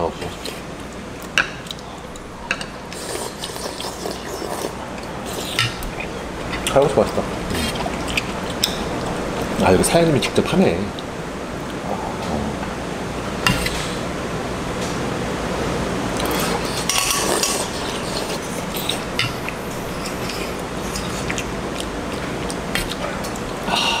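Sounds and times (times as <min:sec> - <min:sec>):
room noise: 0:00.0 - 0:24.0.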